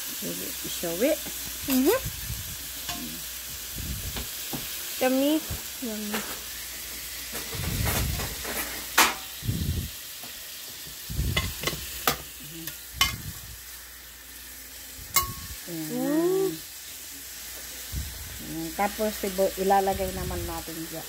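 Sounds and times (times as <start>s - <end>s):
steak sizzling in a pan: 0.0s - 21.0s.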